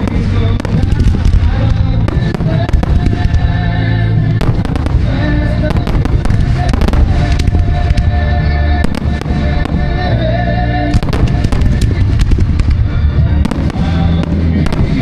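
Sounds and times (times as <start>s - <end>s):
fireworks bangs and crackles: 0.0s - 15.0s
loud music with heavy bass: 0.0s - 15.0s.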